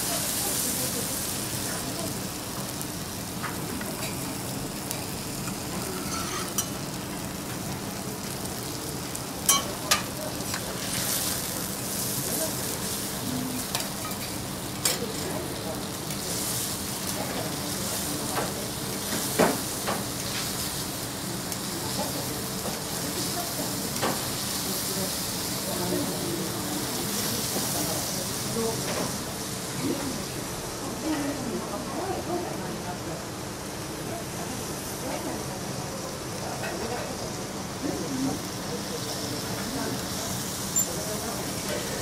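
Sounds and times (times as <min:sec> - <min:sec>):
meat sizzling on a griddle: 0:00.0 - 0:42.0.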